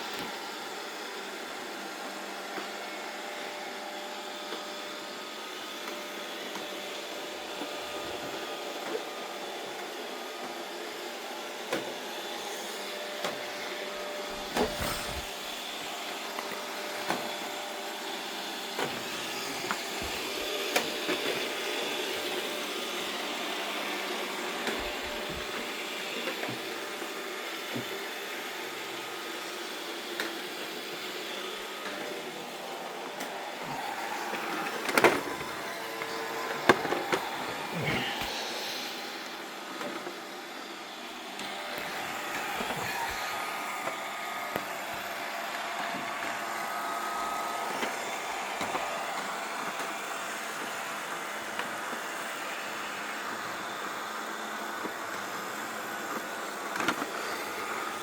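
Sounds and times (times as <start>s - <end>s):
robot vacuum humming: 0.0s - 58.0s.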